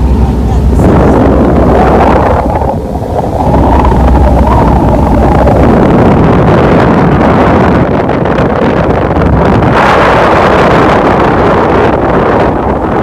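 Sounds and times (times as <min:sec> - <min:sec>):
low rumble of boat engine: 0:00.0 - 0:13.0
wind noise on microphone: 0:00.0 - 0:13.0.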